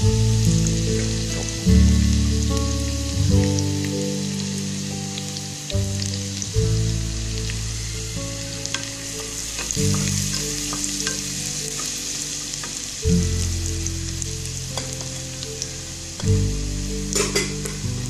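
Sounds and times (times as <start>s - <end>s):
background music of low chords: 0.0s - 18.0s
food sizzling in hot oil: 0.0s - 18.0s.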